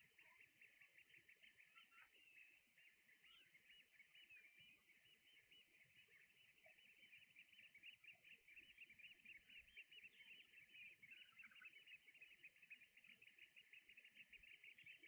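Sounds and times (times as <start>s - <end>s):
shorebirds twittering: 0.0s - 15.0s.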